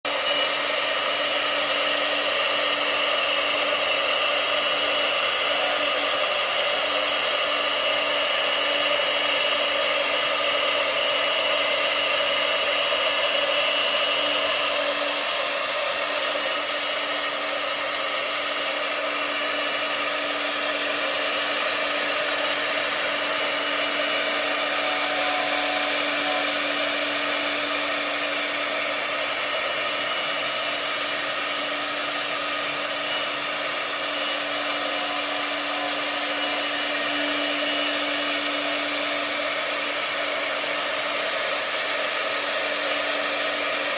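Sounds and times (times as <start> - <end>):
cutting noise: 0.0 - 43.9
router spindle motor whine: 0.0 - 43.9.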